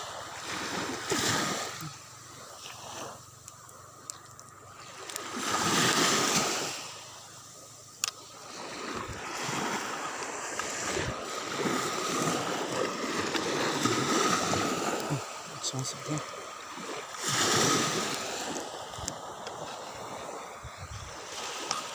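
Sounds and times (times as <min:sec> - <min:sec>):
sea water splashing: 0:00.0 - 0:21.9.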